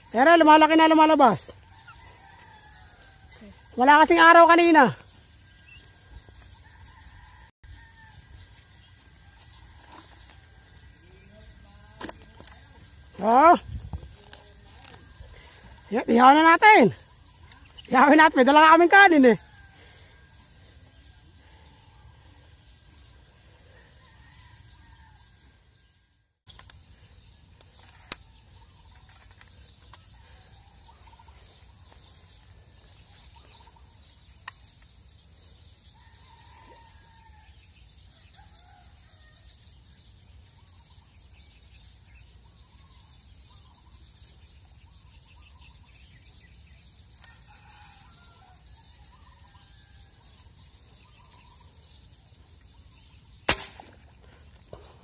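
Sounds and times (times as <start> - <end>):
birds calling: 0.0 - 38.9, 40.0 - 55.0.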